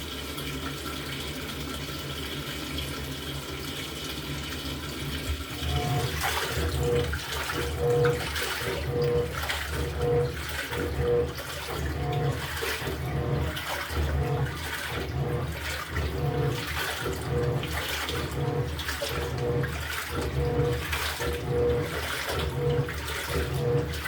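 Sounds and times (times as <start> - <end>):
water sloshing in tub: 0.0 - 24.0
washing machine motor whine: 1.1 - 24.0.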